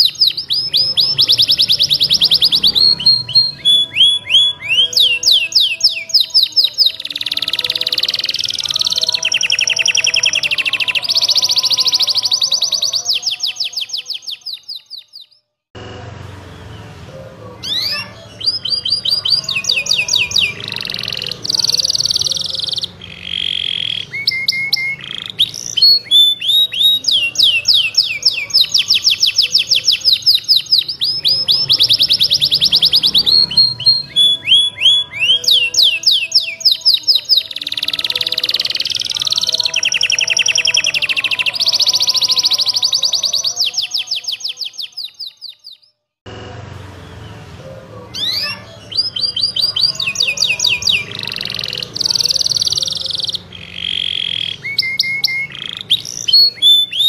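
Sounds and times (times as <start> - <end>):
canary singing trills: 0.0 - 15.5, 16.5 - 46.0, 46.8 - 57.0.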